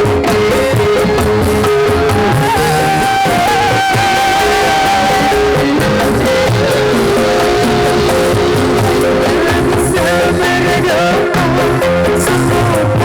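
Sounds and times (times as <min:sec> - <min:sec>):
song with guitar through loudspeaker: 0:00.0 - 0:13.0.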